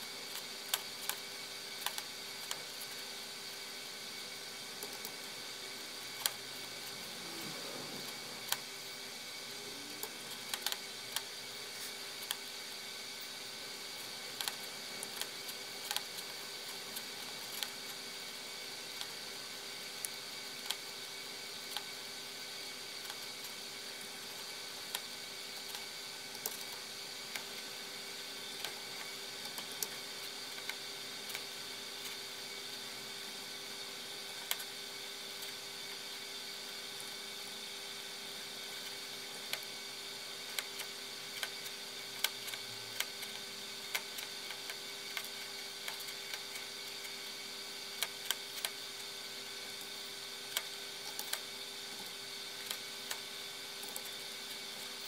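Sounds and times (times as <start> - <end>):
computer electrical hum: 0.0 - 55.0.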